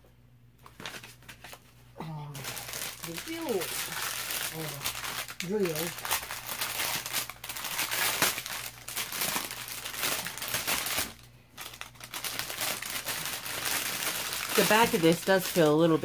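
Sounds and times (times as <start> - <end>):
plastic bag crinkling: 2.3 - 16.0.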